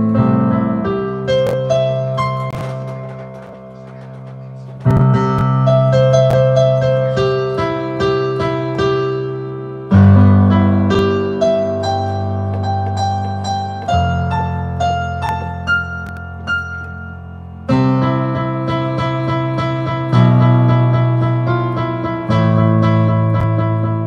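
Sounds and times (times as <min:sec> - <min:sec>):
digital piano low chords: 0:00.0 - 0:24.0
piano melody of single notes: 0:00.0 - 0:24.0.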